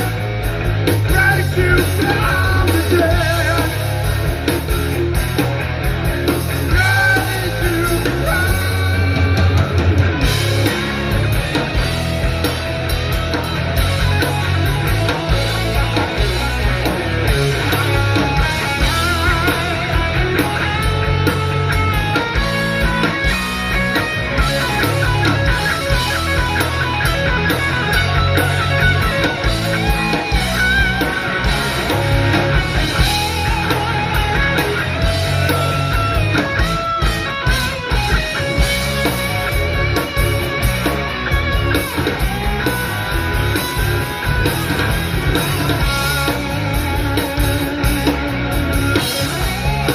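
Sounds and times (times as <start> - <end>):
guitar: 0.0 - 49.9
live rock band playing: 0.0 - 49.9.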